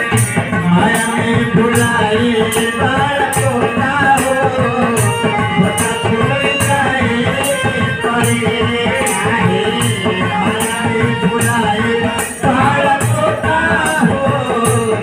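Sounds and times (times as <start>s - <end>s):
devotional music on harmonium: 0.0s - 15.0s
hand drum rhythm: 0.0s - 15.0s
jingling percussion: 0.0s - 15.0s.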